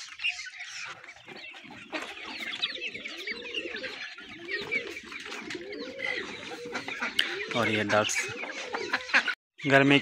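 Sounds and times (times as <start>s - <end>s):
chickens clucking: 0.0s - 10.0s
chicks peeping: 0.0s - 10.0s.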